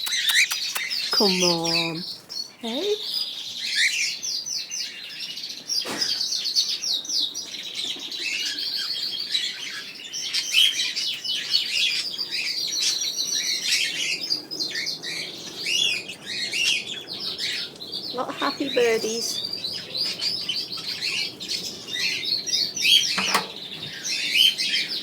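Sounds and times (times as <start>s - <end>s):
birds chirping and singing: 0.0s - 25.0s.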